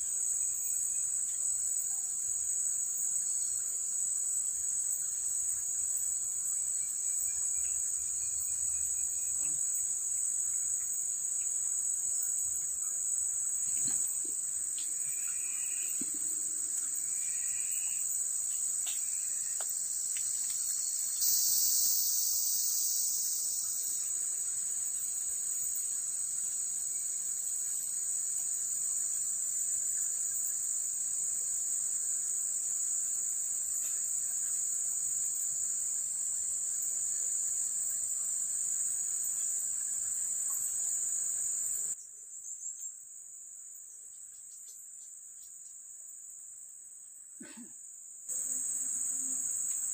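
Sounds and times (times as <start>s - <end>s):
insect chorus: 0.0s - 49.9s
insects droning: 0.0s - 49.9s.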